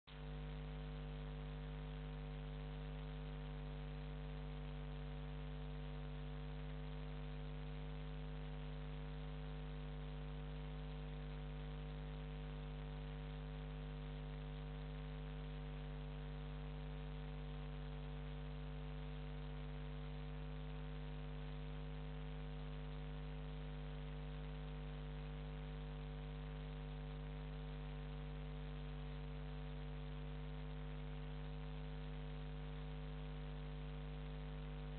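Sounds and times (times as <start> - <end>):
electrical mains hum: 0.1 - 34.9.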